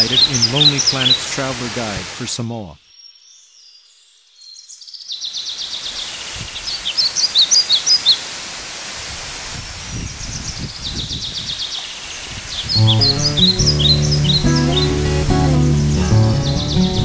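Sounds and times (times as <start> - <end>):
birds chirping and trilling: 0.0 - 8.3, 10.0 - 17.0.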